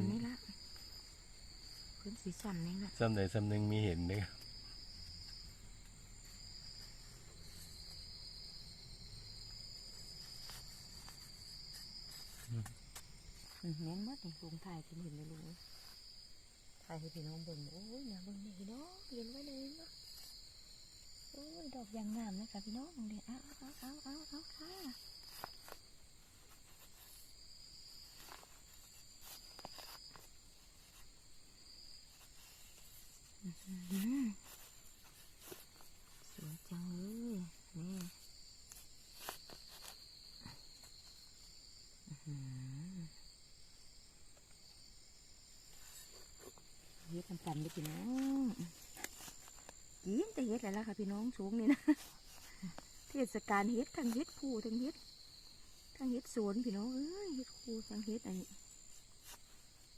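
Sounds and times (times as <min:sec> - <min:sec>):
high-pitched insect trilling: 0:00.0 - 0:59.9.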